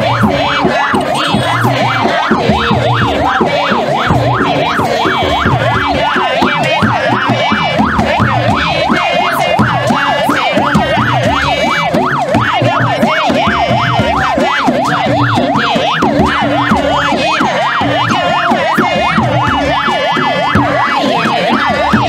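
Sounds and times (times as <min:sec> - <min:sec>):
vehicle siren yelping: 0:00.0 - 0:22.0.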